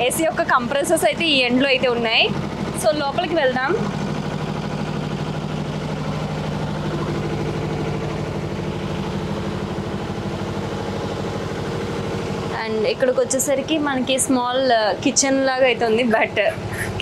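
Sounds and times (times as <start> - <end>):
air-conditioner compressors: 0.0 - 17.0
generator engine humming: 0.0 - 17.0.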